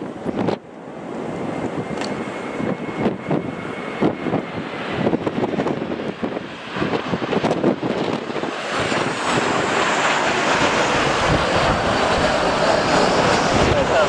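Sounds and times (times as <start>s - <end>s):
jet engines passing: 0.0s - 14.0s
wind buffeting microphone: 0.0s - 14.0s.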